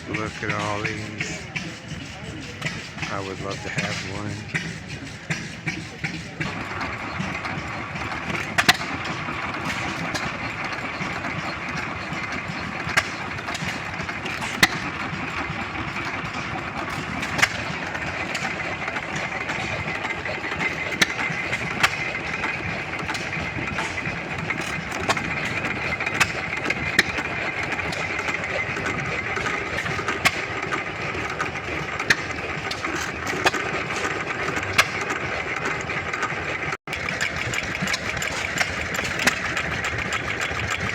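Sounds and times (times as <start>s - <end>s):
old engines running: 0.0s - 40.9s.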